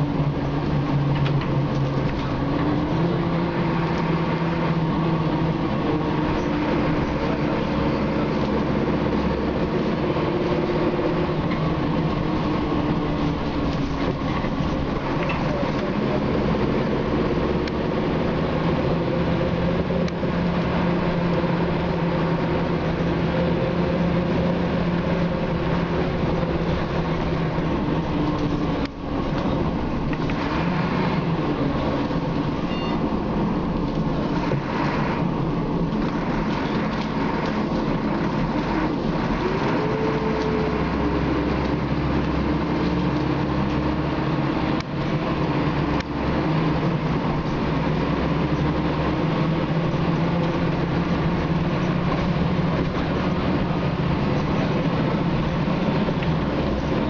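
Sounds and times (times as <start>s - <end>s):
bus diesel engine running: 0.0s - 57.0s
road and body rattle: 0.0s - 57.0s.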